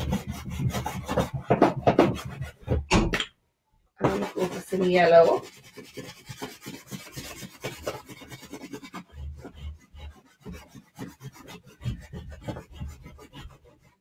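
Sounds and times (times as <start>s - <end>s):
chalk scribbling on plastic tray: 0.0s - 2.8s, 4.0s - 14.0s.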